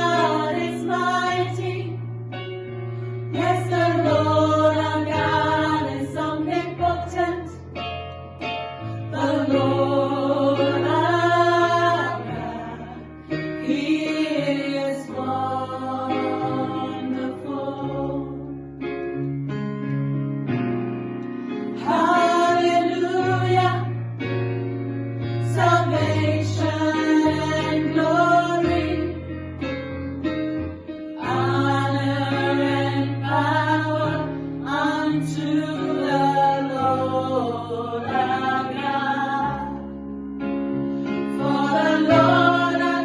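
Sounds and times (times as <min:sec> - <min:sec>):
gospel choir singing: 0:00.0 - 0:07.9, 0:08.8 - 0:18.8, 0:21.5 - 0:24.4, 0:25.2 - 0:29.8, 0:30.7 - 0:43.0.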